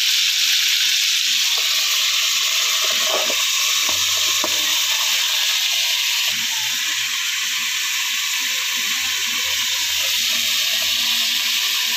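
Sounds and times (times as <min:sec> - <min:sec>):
wok hissing and sizzling: 0:00.0 - 0:11.9.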